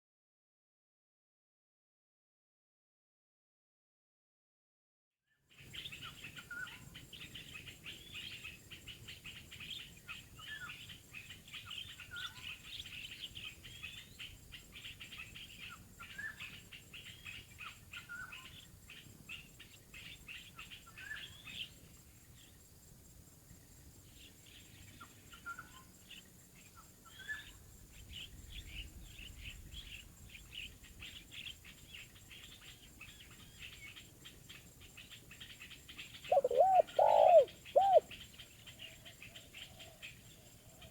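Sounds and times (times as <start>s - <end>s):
small birds chirping: 5.7s - 40.9s.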